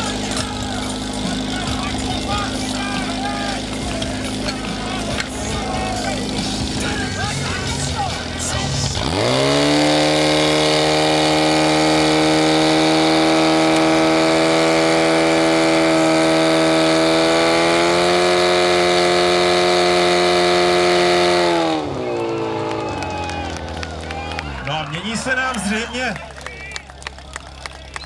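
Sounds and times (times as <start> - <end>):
pump engine at full revs: 0.0 - 28.0.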